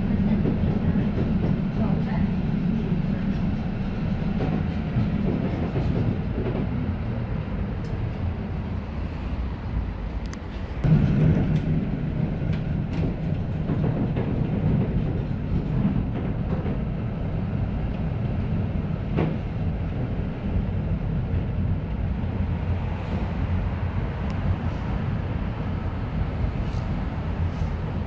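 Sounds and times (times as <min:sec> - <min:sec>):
tram rumbling on rails: 0:00.0 - 0:28.0.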